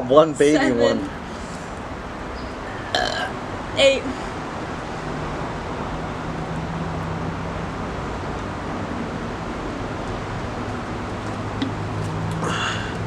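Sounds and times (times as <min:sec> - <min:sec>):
rushing background noise: 0:00.0 - 0:13.0.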